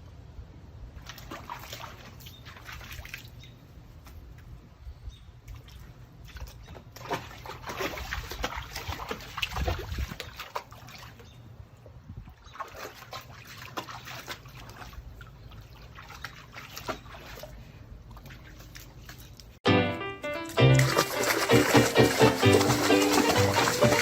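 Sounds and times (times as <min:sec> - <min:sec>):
water splashing and trickling: 0:00.8 - 0:04.6, 0:05.3 - 0:19.6, 0:20.4 - 0:24.0.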